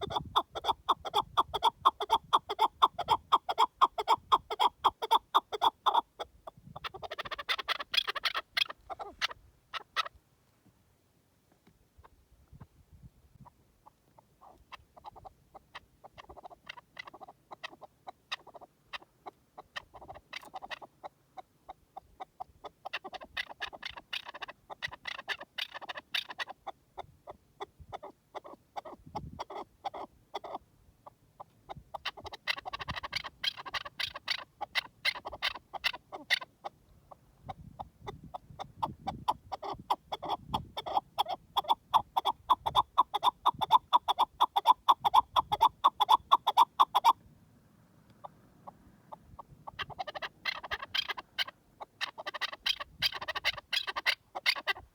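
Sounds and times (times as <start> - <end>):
partridge clucking calls: 0.0 - 10.2, 13.4 - 47.2, 48.1 - 54.9.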